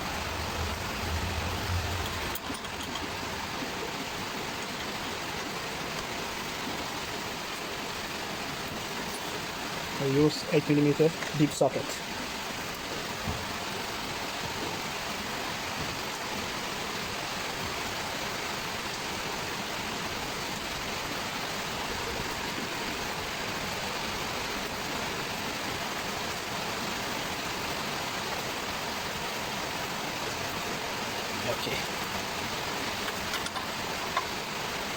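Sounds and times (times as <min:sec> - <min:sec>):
rain hissing: 0:00.0 - 0:34.9.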